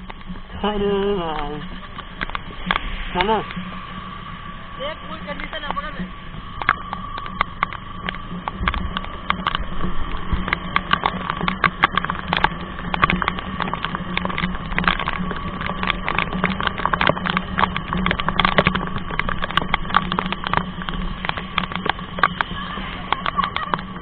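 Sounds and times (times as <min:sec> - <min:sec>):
motorcycle engine low hum: 0:00.0 - 0:24.0
raindrops tapping on camera: 0:00.0 - 0:24.0.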